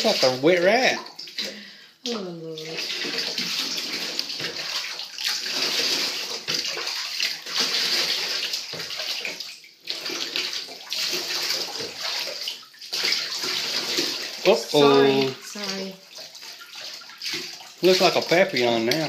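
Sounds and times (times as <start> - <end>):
tap water running and splashing: 0.0 - 19.0.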